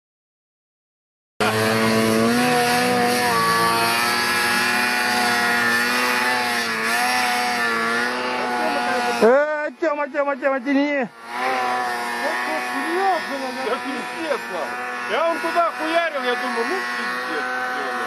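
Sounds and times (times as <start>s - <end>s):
snowmobile engines running: 1.4s - 18.0s.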